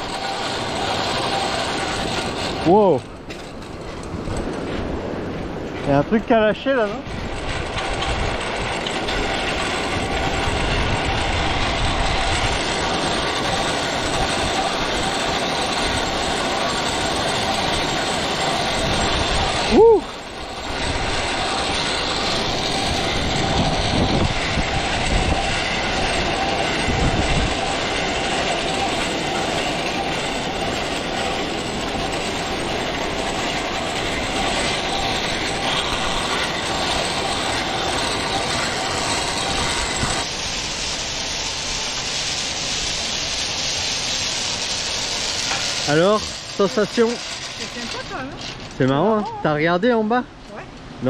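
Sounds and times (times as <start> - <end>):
pulley wheels rolling on cable: 0.0 - 51.0.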